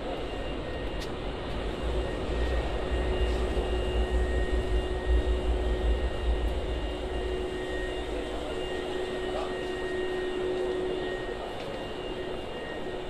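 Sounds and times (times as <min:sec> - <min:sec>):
electric train rumbling: 0:00.0 - 0:13.0
steady hum: 0:00.0 - 0:13.0.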